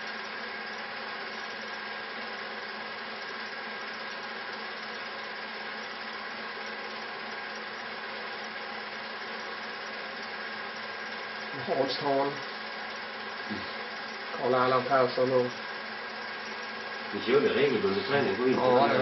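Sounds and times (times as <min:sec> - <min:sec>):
projector motor hum with whine: 0:00.0 - 0:19.0.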